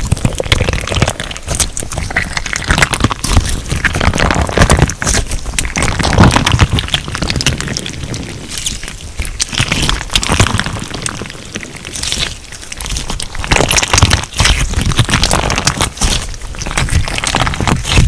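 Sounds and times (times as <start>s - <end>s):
slime crackling and popping: 0.0s - 18.0s
slime squelching: 0.0s - 18.0s.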